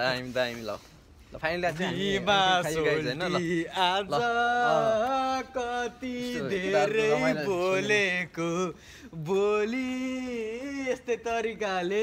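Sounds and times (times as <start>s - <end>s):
men singing: 1.7s - 12.0s.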